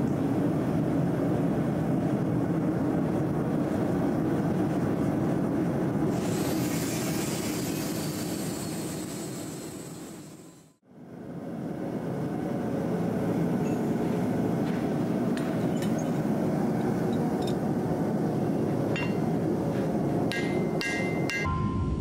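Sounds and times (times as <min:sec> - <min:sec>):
gas burners roaring: 0:00.0 - 0:21.5.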